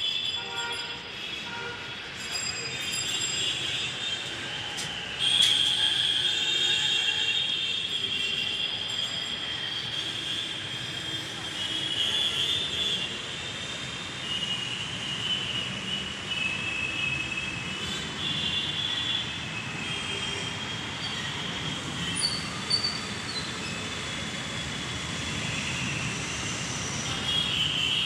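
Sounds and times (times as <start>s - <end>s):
train wheels squealing: 0.0s - 1.2s, 2.0s - 28.0s.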